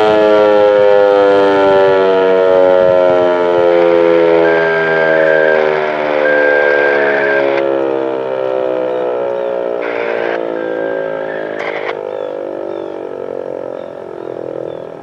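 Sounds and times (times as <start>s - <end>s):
rotating siren winding down: 0.0s - 15.0s.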